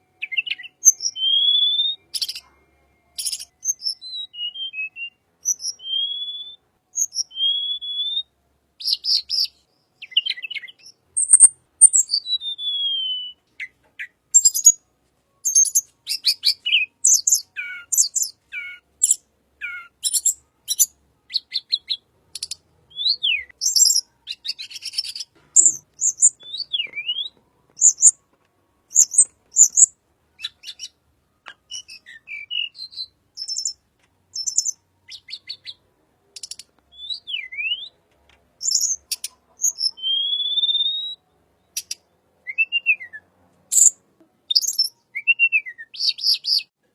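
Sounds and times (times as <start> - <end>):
songbird singing: 0.0 - 46.8.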